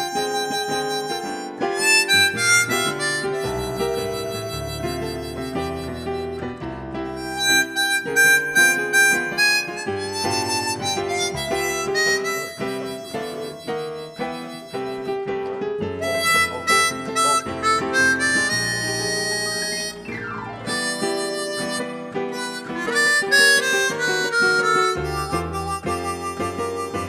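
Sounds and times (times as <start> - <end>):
harmonica solo: 0.0 - 27.0
keyboard: 0.0 - 27.0.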